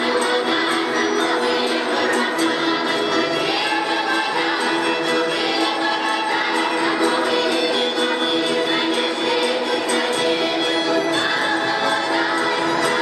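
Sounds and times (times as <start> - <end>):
folk choir singing: 0.0 - 13.0.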